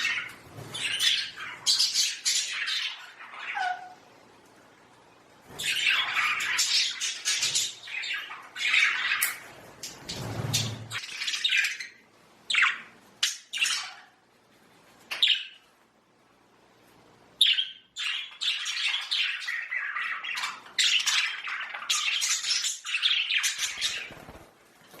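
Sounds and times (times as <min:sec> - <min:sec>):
budgerigars chirping and squawking: 0:00.0 - 0:04.1, 0:05.5 - 0:14.2, 0:15.1 - 0:15.6, 0:17.4 - 0:25.0.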